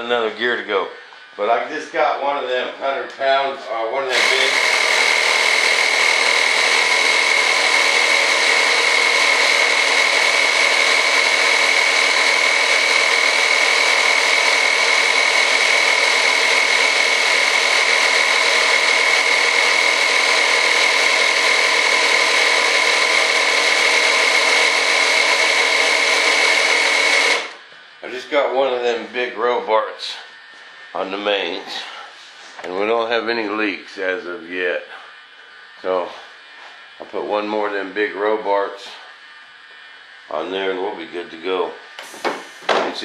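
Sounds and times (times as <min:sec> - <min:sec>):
air compressor whining: 0:00.0 - 0:43.0.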